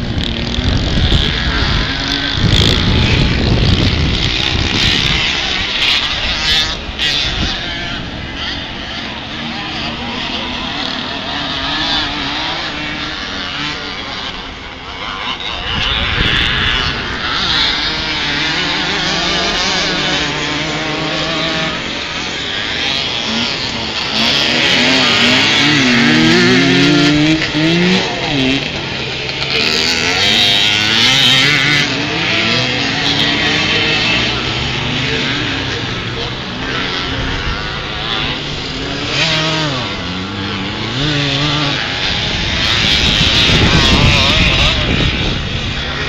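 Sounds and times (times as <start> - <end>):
motocross motorcycles revving past: 0.0 - 46.0.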